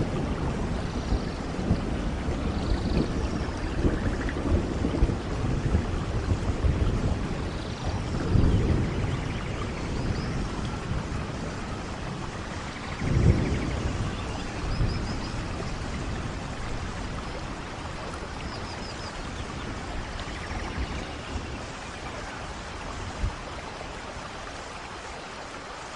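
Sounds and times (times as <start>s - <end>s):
low rolls of thunder: 0.0s - 25.0s
steady rainfall: 0.0s - 25.9s.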